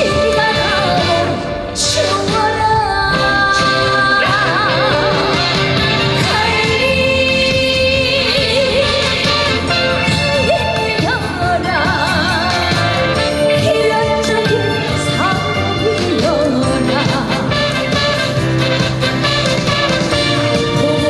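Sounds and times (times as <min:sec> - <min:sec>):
band accompaniment: 0:00.0 - 0:21.0
woman singing with vibrato: 0:00.0 - 0:21.0.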